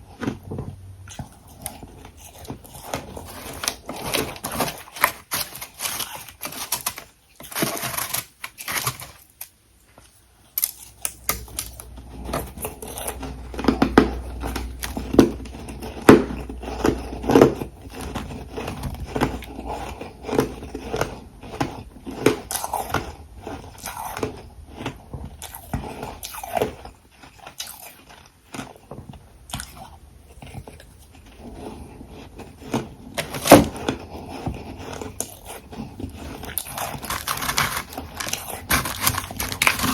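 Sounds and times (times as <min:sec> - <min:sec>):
person crunching ice: 0:01.5 - 0:09.4, 0:10.5 - 0:28.8, 0:29.5 - 0:39.9.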